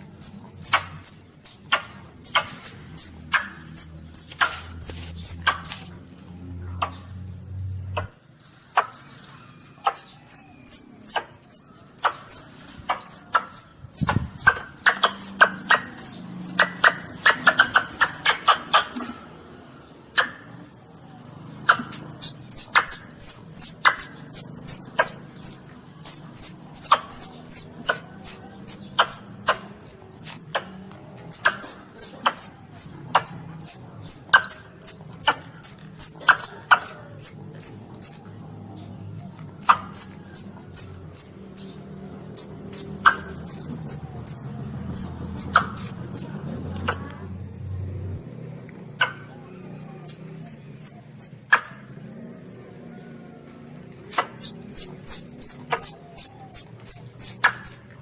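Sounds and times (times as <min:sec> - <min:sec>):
baby civet high squeaky chirps: 0:00.0 - 0:06.0, 0:08.7 - 0:19.0, 0:21.6 - 0:47.2, 0:49.0 - 0:53.0, 0:53.9 - 0:58.0.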